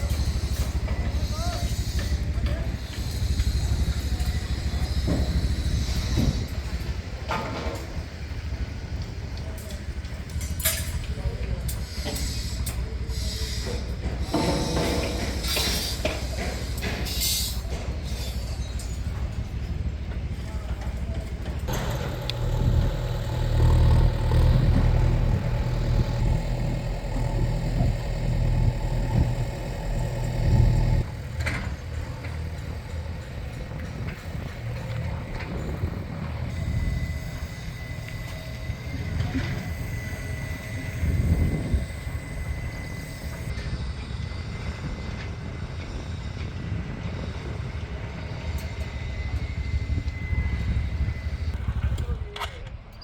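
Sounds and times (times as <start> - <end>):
motor vehicle rumble: 0.0 - 43.6.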